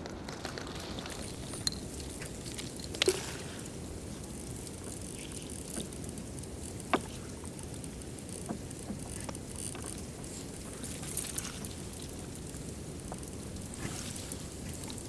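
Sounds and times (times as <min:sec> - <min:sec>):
ice cracking and pinging: 0:00.0 - 0:15.0.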